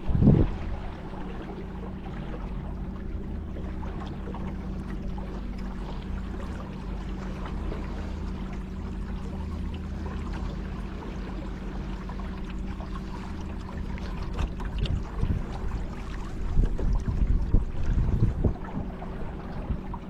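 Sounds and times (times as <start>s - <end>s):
water splashing along hull: 0.0s - 20.0s.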